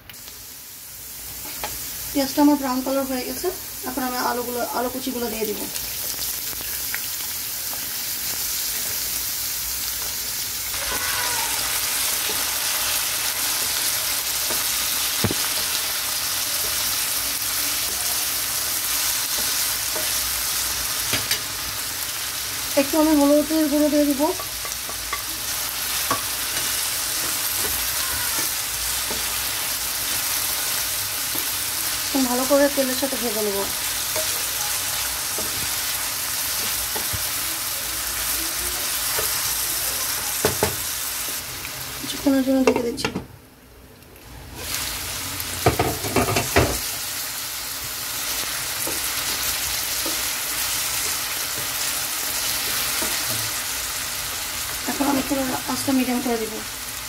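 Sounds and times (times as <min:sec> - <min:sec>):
potatoes sizzling in hot oil: 0:00.0 - 0:43.0, 0:44.1 - 0:57.0.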